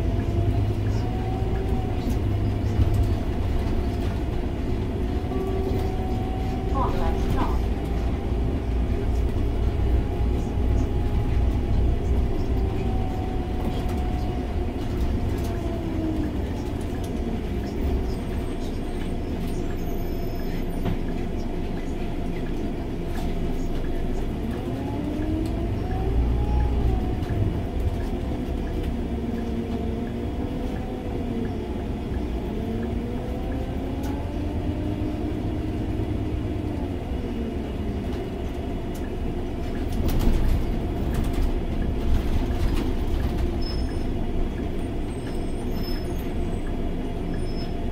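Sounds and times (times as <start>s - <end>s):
bus engine rumble and whine: 0.0s - 47.9s.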